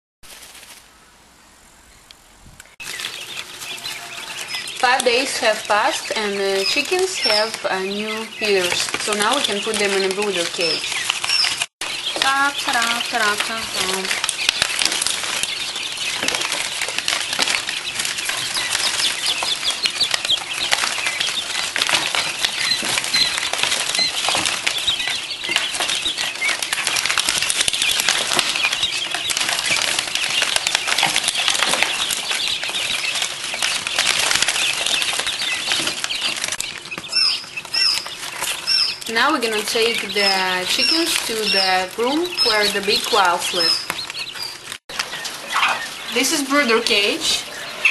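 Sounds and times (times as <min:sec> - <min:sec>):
chicks chirping: 0:01.9 - 0:47.9
chicks rustling in cardboard box: 0:02.8 - 0:47.9.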